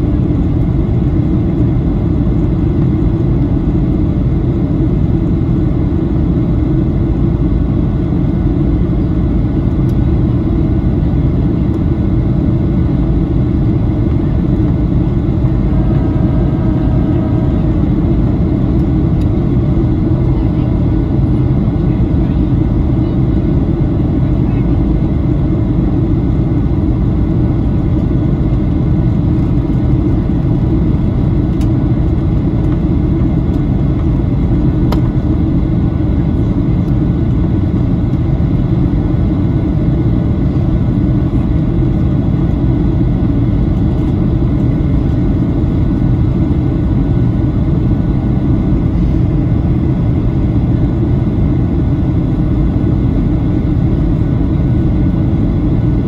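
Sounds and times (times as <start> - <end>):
faint steady whines: 0.0 - 56.0
jet engines roaring in cabin: 0.0 - 56.0.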